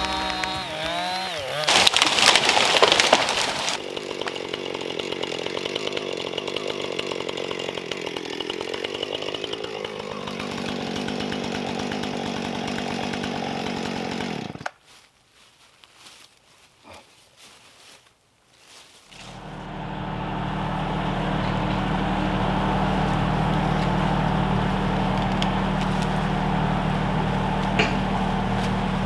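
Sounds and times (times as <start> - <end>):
chainsaw running: 0.0 - 14.7, 19.1 - 29.0
chainsaw cutting wood: 0.0 - 14.8, 19.1 - 29.0.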